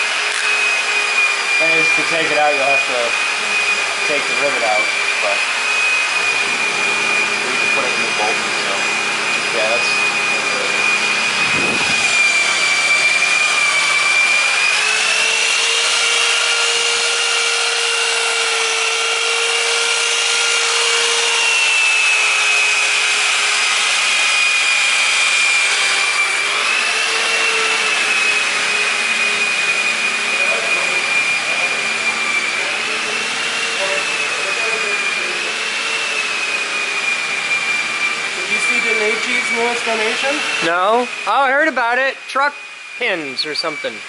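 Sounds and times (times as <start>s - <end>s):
workshop machine whining: 0.0s - 44.0s.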